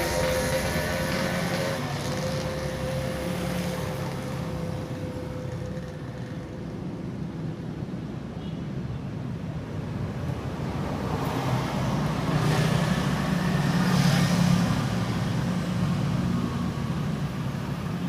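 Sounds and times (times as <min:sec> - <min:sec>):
passing vehicle engines: 0:00.0 - 0:18.0.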